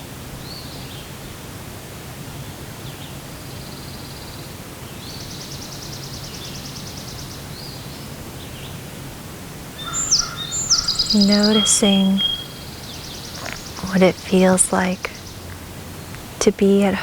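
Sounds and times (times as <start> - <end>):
steady background hiss: 0.0 - 17.0
songbirds trilling and chirping: 2.4 - 8.9, 9.6 - 17.0.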